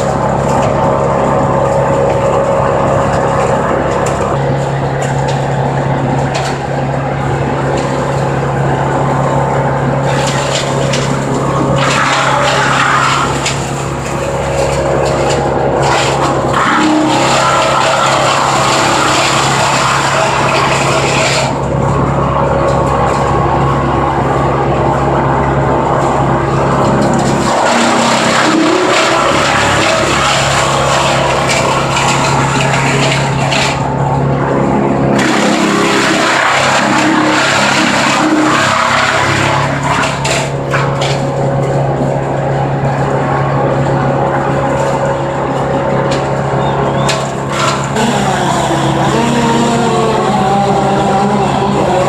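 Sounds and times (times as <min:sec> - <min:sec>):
branches grinding in chipper: 0:00.0 - 0:52.0
brush chipper running: 0:00.0 - 0:52.0.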